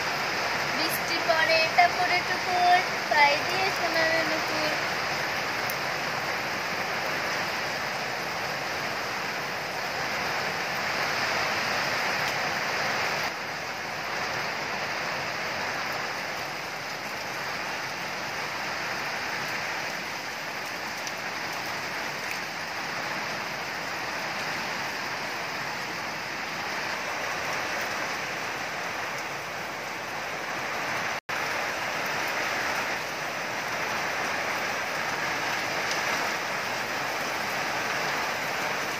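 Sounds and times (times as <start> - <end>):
rain falling on leafy plants: 0.0 - 38.9.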